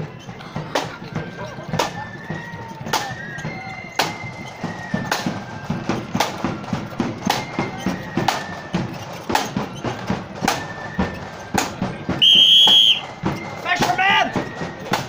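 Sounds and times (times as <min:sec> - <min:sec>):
snare and bass drums marching: 0:00.0 - 0:15.0.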